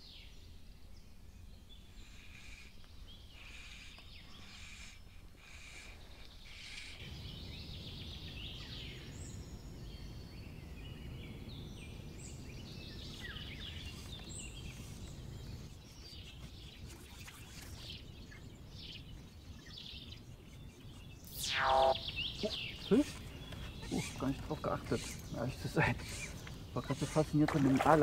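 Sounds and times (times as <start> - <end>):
small birds chirping and trilling: 0.0 - 28.0.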